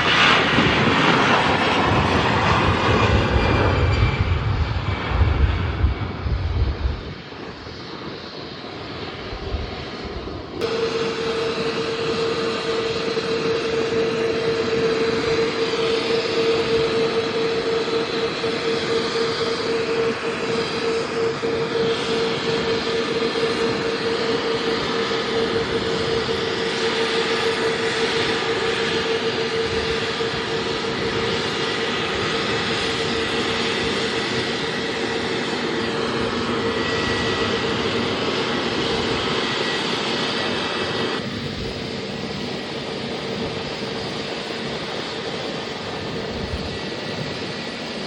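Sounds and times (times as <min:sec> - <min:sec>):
airliner engines humming: 0:00.0 - 0:48.0
high engine whine: 0:00.0 - 0:48.0.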